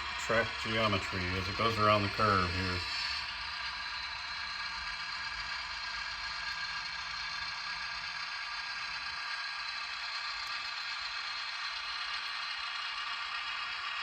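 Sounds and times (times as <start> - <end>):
small electric motor whirring: 0.0 - 14.0
wheels rattling on rail: 0.0 - 14.0.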